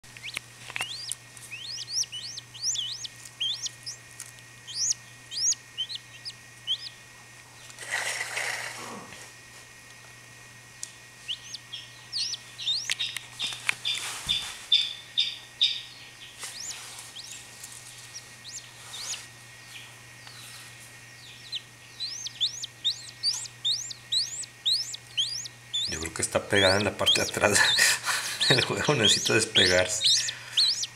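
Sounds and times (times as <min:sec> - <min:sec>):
chick peeping: 0:00.0 - 0:07.0, 0:11.2 - 0:20.5, 0:21.1 - 0:30.9.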